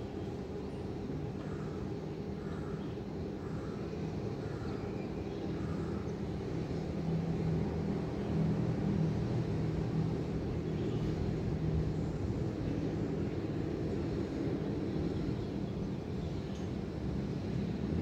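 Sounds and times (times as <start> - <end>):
city traffic rumble: 0.0 - 18.0
low engine drone: 0.0 - 18.0.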